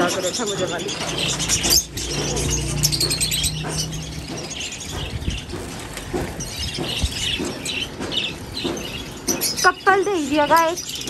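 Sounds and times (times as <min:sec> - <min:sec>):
small cage birds chirping: 0:00.0 - 0:11.0.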